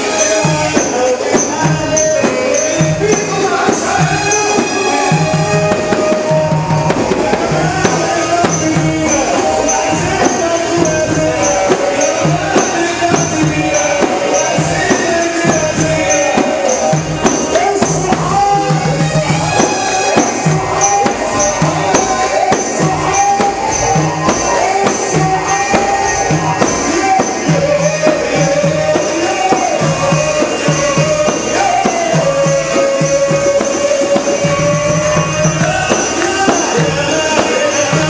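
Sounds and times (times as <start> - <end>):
tambourine and drum rhythm: 0.0 - 38.0
wavering melody line: 0.0 - 38.0.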